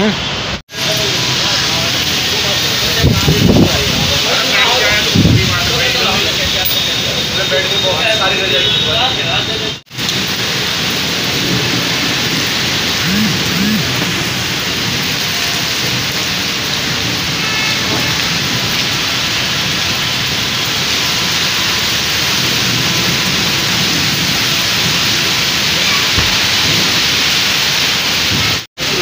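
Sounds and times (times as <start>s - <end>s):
heavy rain on flooded street: 0.1s - 29.0s.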